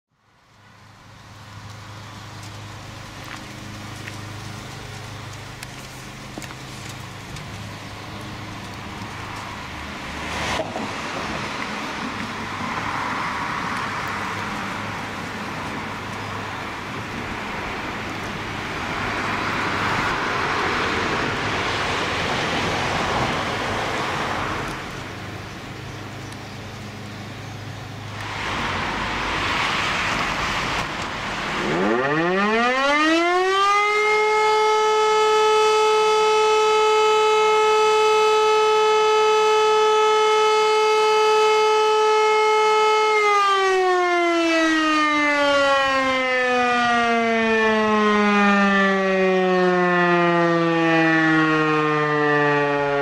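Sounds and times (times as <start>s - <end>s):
cars passing: 0.2s - 53.0s.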